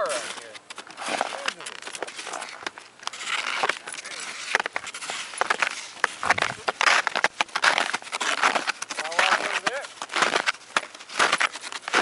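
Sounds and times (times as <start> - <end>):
footsteps crunching on snow: 0.0 - 12.0.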